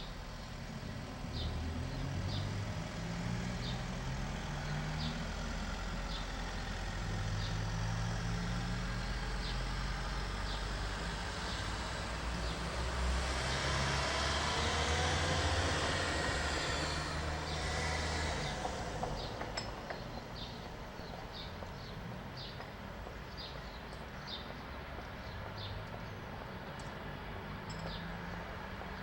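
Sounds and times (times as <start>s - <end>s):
road traffic rumble: 0.0s - 29.0s
vehicle approaching: 0.0s - 29.0s.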